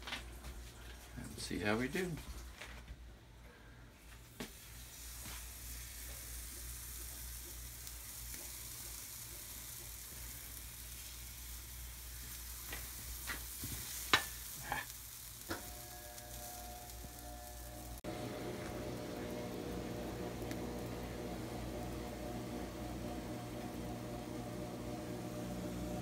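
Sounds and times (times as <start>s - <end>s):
batter sizzling on waffle iron: 4.2s - 26.0s.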